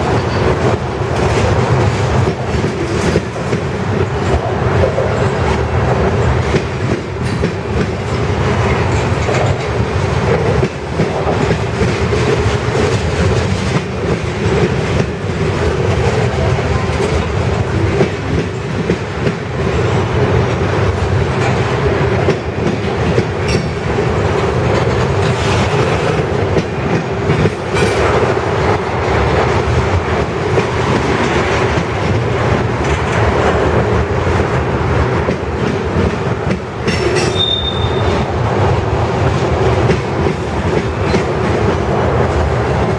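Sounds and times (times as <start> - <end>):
wheels clicking over rail joints: 0.0 - 38.0
freight train rolling past: 0.0 - 42.9.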